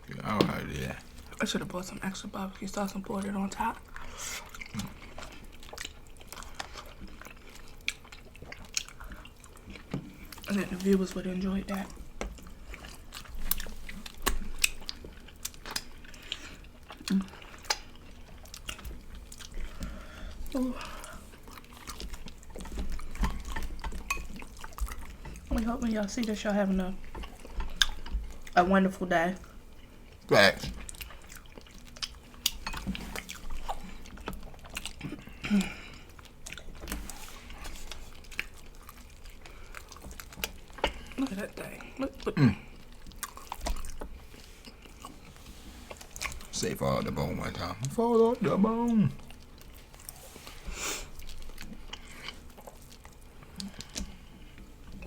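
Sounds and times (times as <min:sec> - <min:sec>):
chewing and biting: 0:02.9 - 0:28.6, 0:29.4 - 0:48.0, 0:48.8 - 0:55.0.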